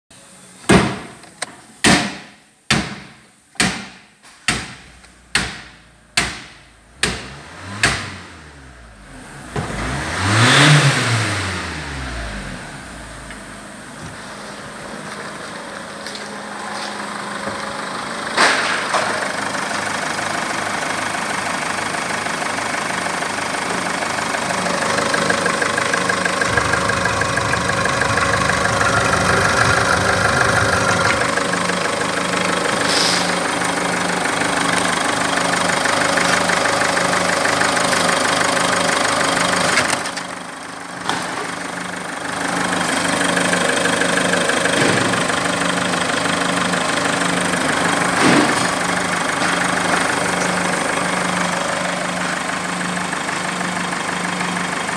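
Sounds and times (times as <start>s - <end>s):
diesel engine idling: 5.1s - 54.9s.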